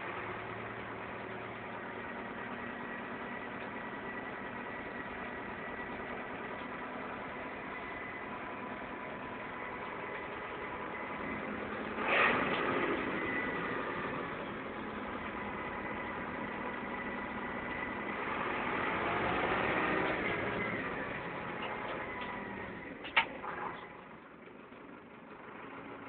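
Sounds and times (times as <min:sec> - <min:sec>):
car cabin noise with whine: 0:00.0 - 0:26.0.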